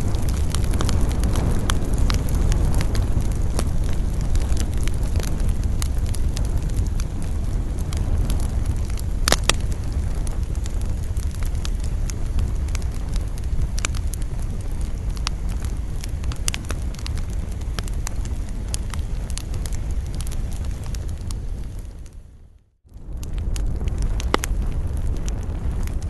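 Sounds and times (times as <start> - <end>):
campfire crackling and popping: 0.0 - 26.0
low wind rumble: 0.0 - 26.0.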